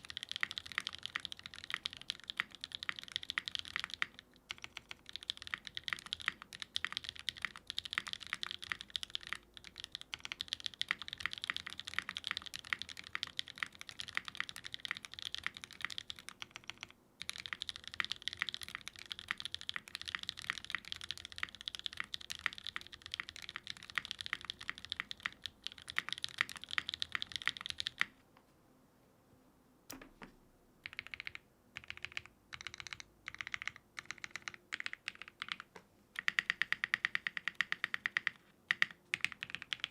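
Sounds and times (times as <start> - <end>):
mechanical keyboard typing: 0.0 - 28.1, 30.8 - 39.9.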